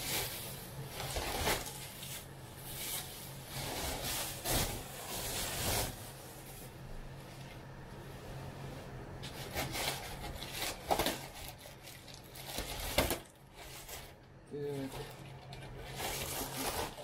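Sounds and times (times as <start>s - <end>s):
bubble wrap rustling and crinkling: 0.0s - 17.0s.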